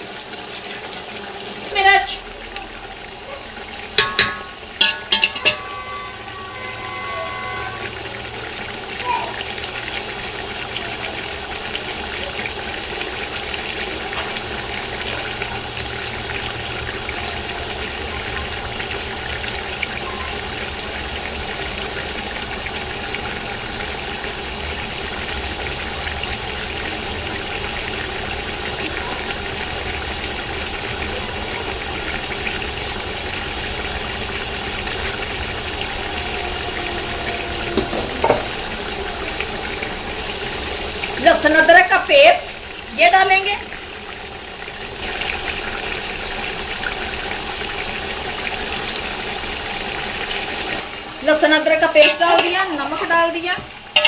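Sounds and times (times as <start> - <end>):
chicken sizzling in oil: 0.0 - 54.0.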